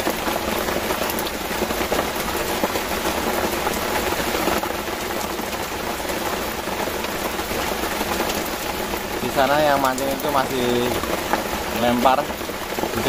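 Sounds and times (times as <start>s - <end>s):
heavy rain on river: 0.0s - 13.0s.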